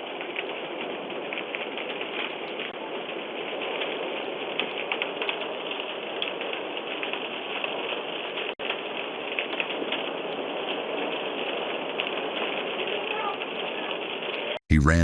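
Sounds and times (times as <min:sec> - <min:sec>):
fire rushing and crackling: 0:00.0 - 0:15.0.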